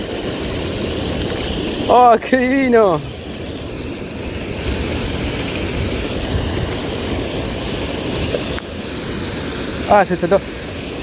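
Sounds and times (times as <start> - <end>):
water jetting and splashing: 0.0 - 11.0.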